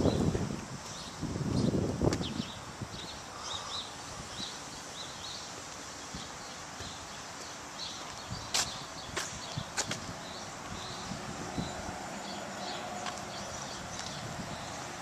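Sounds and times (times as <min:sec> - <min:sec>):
steady outdoor hiss: 0:00.0 - 0:15.0
footsteps on pavement: 0:00.1 - 0:02.4, 0:05.2 - 0:15.0
small birds chirping: 0:00.9 - 0:15.0.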